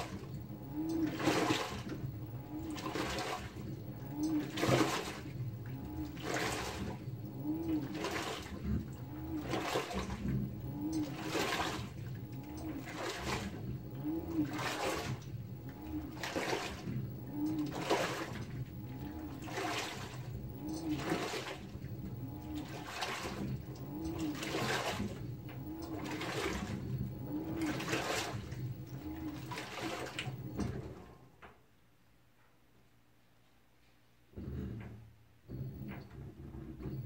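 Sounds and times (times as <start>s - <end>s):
washing machine water swishing: 0.0s - 31.4s
washing machine motor hum: 0.0s - 31.7s, 34.3s - 37.0s.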